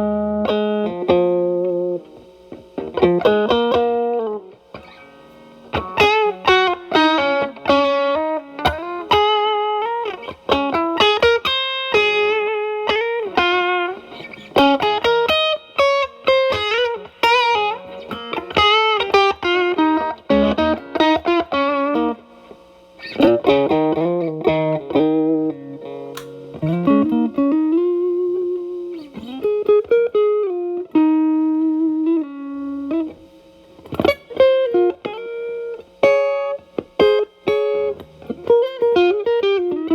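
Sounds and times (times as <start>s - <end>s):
distorted electric guitar blues lead: 0.0s - 39.9s.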